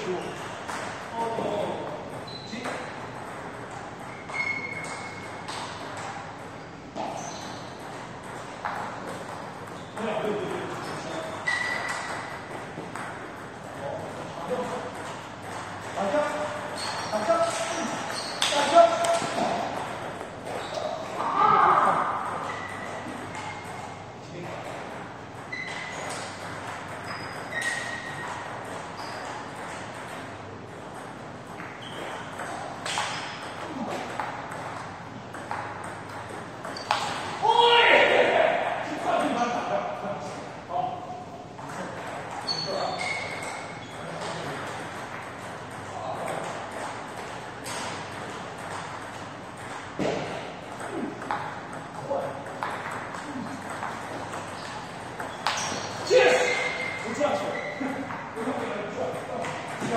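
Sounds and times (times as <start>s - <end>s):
table tennis ball bouncing: 0.0s - 39.7s, 41.5s - 59.9s
room noise: 0.0s - 59.9s.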